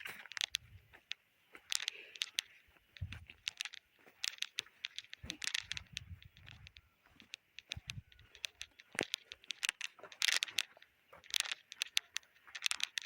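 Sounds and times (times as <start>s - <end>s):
footsteps crunching on dry ground: 0.0s - 13.0s.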